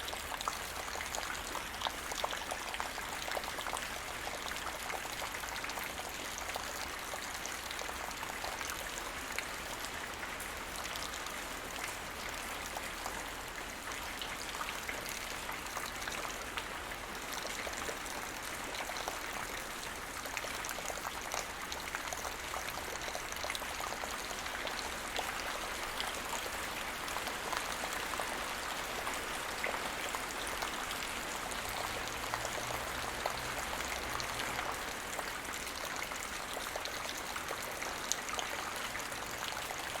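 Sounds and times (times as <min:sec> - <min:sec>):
light rain pattering: 0:00.0 - 0:40.0.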